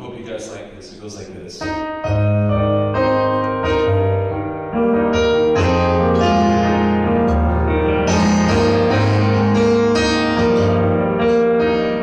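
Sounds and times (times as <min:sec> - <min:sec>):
electronic piano chords: 0:01.4 - 0:12.0.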